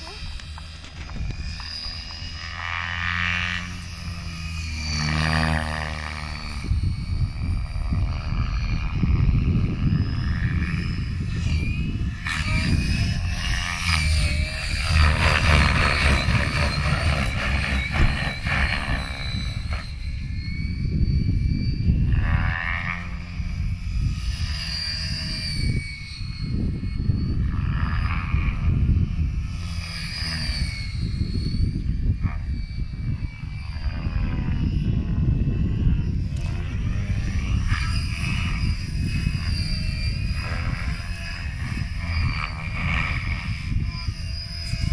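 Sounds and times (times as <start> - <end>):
model helicopter rotor whine: 0.0 - 44.9.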